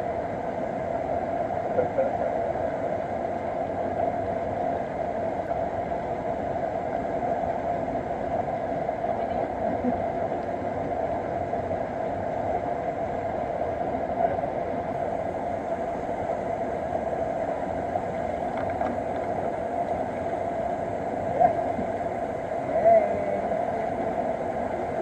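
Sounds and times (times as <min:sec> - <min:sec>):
stream water rushing over rocks: 0:00.0 - 0:25.0.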